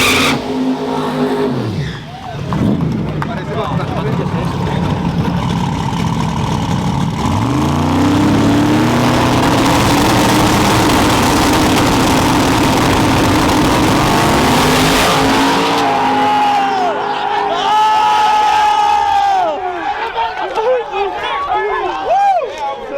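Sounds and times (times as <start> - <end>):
truck engines at full throttle: 0.0 - 19.4.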